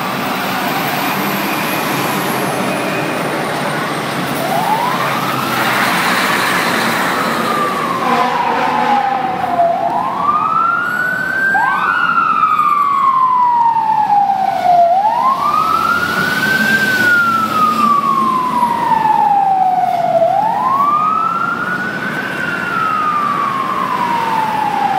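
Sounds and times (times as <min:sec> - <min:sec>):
fire truck siren wailing: 0:00.0 - 0:24.9
road and engine noise: 0:00.0 - 0:24.9
fainter second siren: 0:00.6 - 0:24.9.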